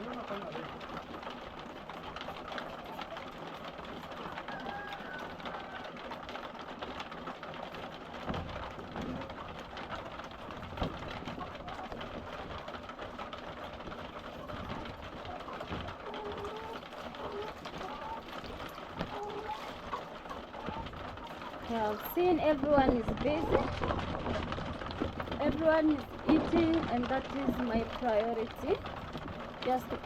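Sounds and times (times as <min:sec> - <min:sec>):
hens clucking and cooing: 0:00.0 - 0:30.0
patter of fine ticks: 0:00.0 - 0:30.0.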